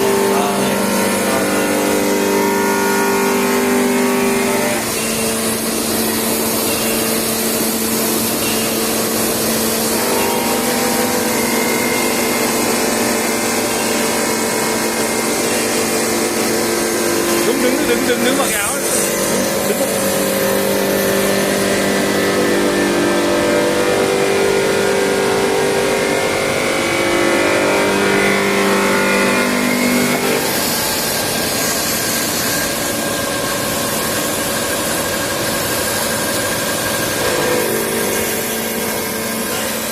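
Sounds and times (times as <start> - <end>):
machine hum with tones: 0.0 - 39.9.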